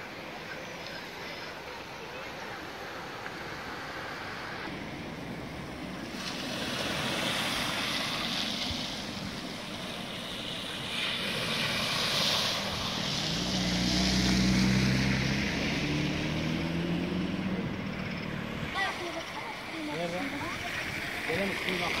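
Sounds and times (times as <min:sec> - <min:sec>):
car engine hum: 0:00.0 - 0:22.0
tyres swishing through water: 0:00.0 - 0:22.0.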